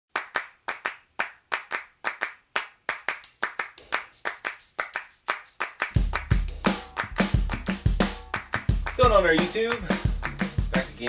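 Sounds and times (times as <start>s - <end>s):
rhythmic hand claps: 0.1s - 11.0s.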